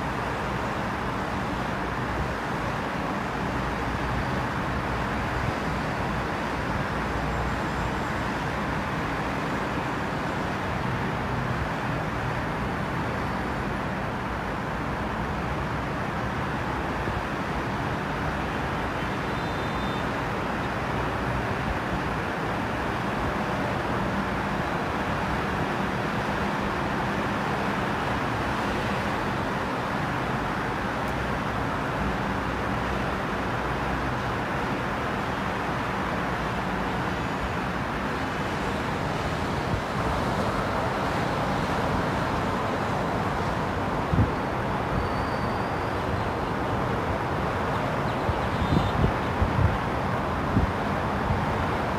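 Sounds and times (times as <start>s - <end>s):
distant city traffic rumble: 0.0s - 51.9s.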